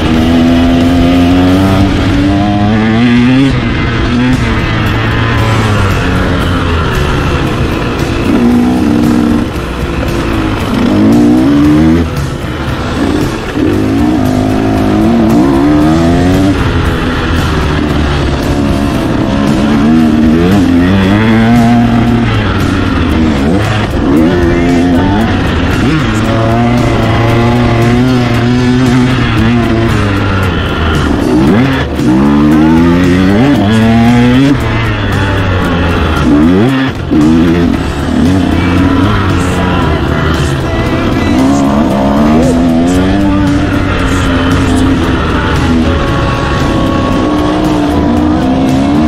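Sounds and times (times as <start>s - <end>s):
motocross bike engine revving: 0.0s - 49.0s.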